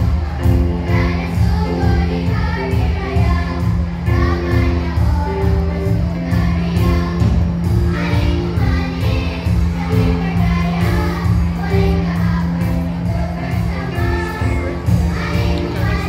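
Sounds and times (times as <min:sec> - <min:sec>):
children's choir singing: 0:00.0 - 0:16.0
musical accompaniment with beat: 0:00.0 - 0:16.0.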